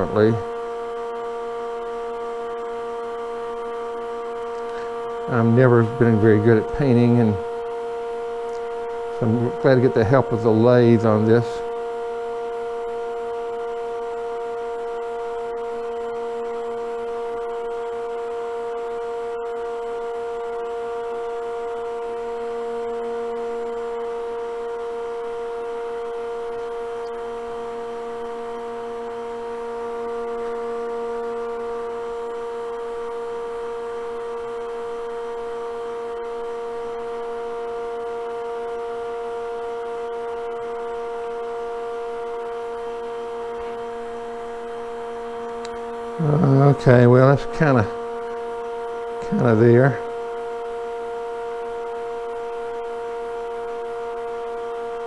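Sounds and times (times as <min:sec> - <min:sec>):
wood lathe humming and whining: 0:00.0 - 0:55.0.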